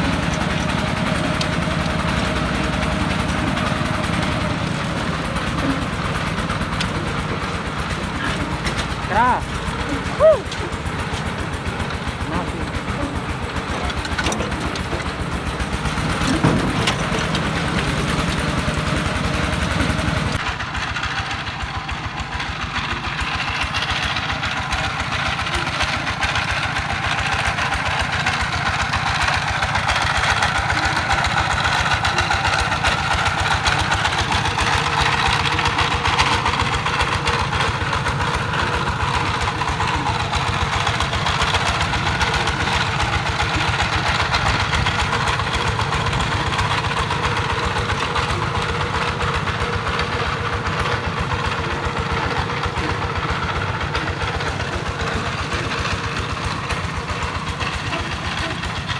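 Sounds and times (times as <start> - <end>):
diesel engine chugging: 0.0 - 58.9.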